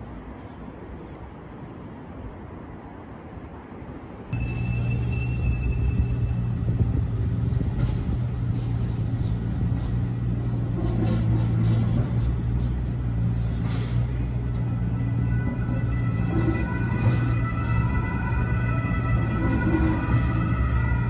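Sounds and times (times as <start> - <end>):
constant traffic hiss: 0.0 - 21.0
vehicles passing with low rumble: 0.0 - 21.0.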